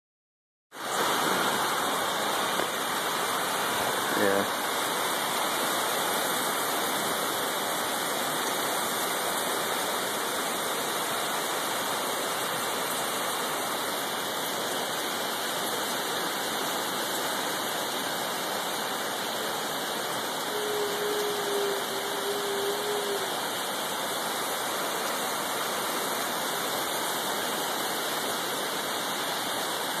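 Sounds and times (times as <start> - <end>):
heavy rain hissing: 0.8 - 30.0.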